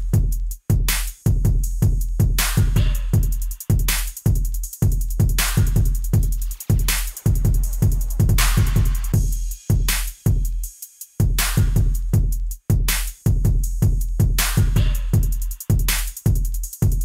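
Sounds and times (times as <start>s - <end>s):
electronic music with heavy beat: 0.0s - 17.0s.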